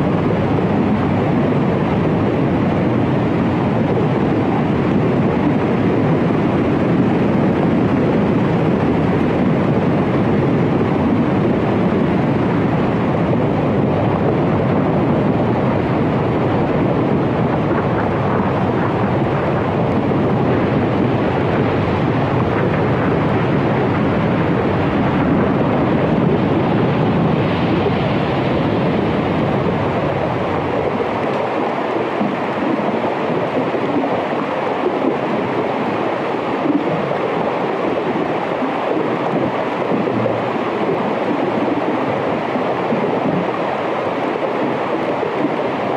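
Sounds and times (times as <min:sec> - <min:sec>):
loud steady rushing noise: 0:00.0 - 0:45.9.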